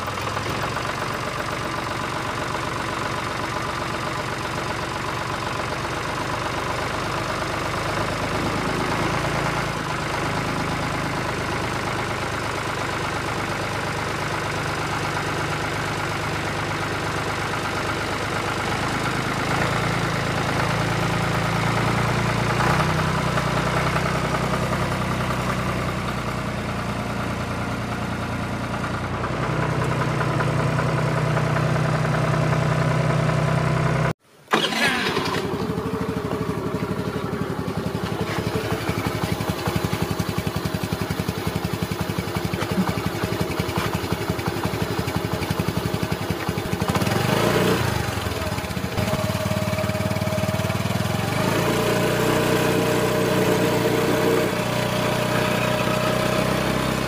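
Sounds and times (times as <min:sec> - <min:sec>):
engine running: 0:00.0 - 0:57.0
tractor engine idling: 0:00.0 - 0:57.0.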